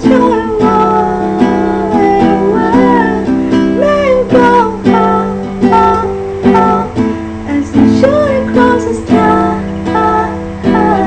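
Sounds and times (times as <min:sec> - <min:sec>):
acoustic guitar strumming: 0:00.0 - 0:11.0
person singing long sliding notes: 0:00.0 - 0:11.0.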